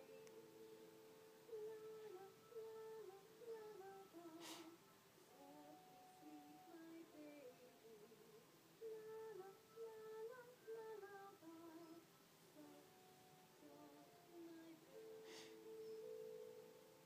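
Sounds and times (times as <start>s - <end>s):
person humming a slow tune: 0.0s - 16.8s.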